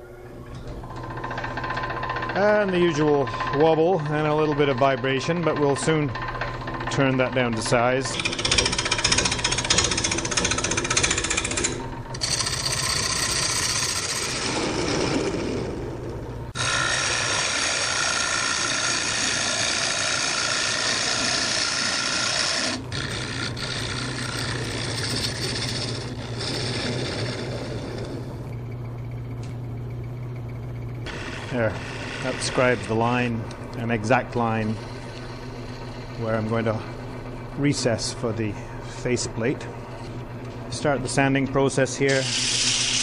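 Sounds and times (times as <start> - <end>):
wood lathe motor hum: 0.7 - 43.0
gouge cutting spinning wood: 1.1 - 28.4, 31.0 - 38.4, 42.0 - 43.0.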